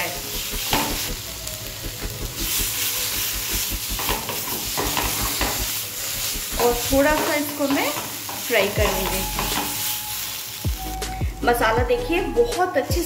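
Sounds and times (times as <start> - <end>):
paste sizzling in oil: 0.0 - 11.1.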